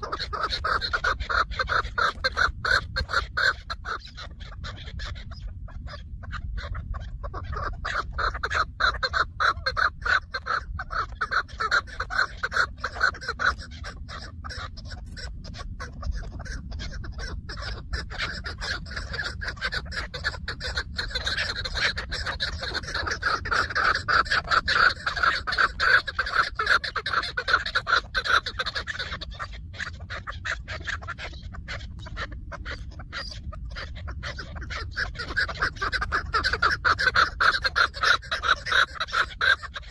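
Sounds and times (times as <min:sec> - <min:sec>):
partridge clucking calls: 0:00.0 - 0:39.9.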